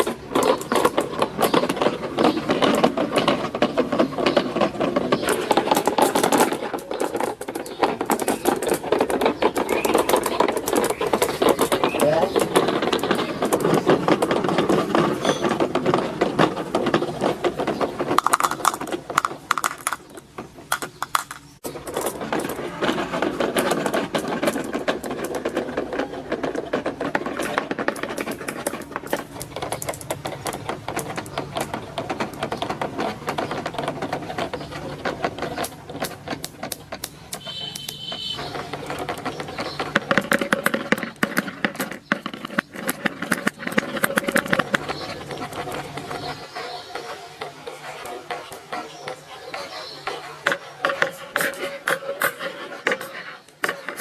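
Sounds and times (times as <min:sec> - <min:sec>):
marbles clattering down plastic track: 0:00.0 - 0:46.5.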